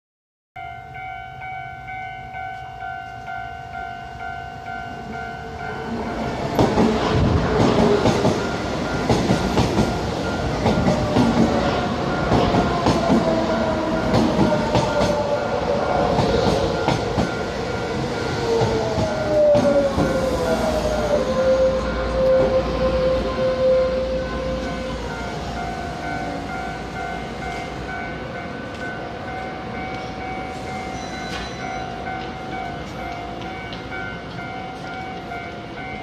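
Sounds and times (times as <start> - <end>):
level crossing warning bell: 0.6 - 7.1, 7.8 - 36.0.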